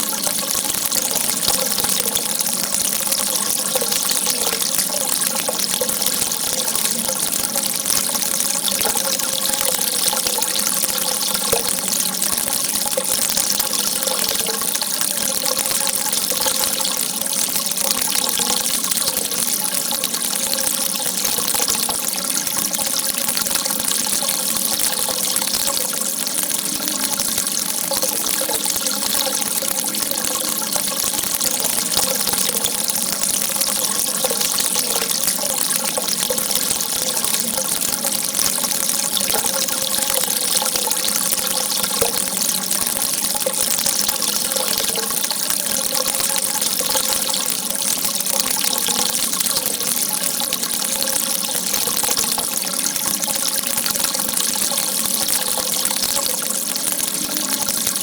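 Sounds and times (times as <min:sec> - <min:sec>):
water gushing: 0:00.0 - 0:58.0.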